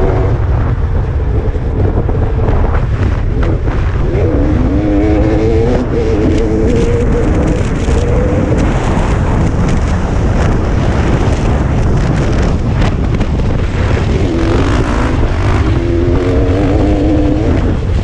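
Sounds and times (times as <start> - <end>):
dirt bike engine running: 0.0 - 18.0
wind rumble on microphone: 0.0 - 18.0.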